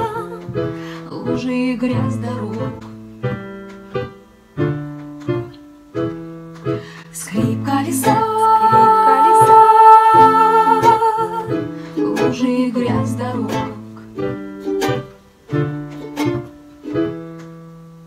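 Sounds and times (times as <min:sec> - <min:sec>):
piano chords: 0:00.0 - 0:18.0
ukulele strumming: 0:00.0 - 0:18.0.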